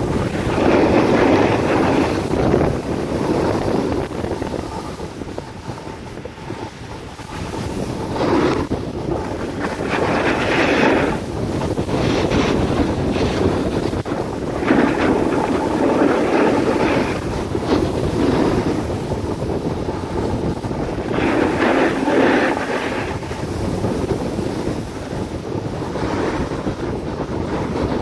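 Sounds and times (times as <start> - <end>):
skis scraping on snow: 0.0 - 28.0
wind rushing over microphone: 0.0 - 28.0.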